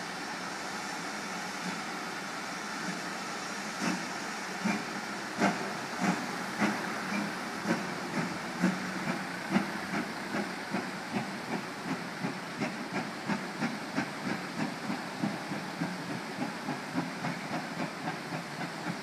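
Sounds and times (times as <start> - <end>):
steam locomotive exhaust beats: 0.0 - 19.0.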